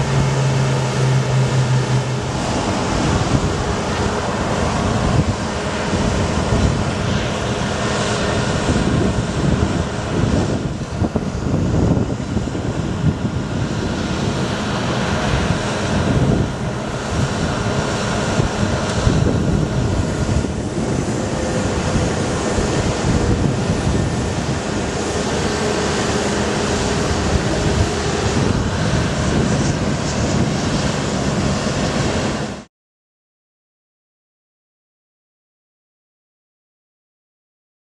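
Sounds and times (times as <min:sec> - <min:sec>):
truck engine running: 0:00.0 - 0:32.6
wind noise on microphone: 0:00.0 - 0:32.7.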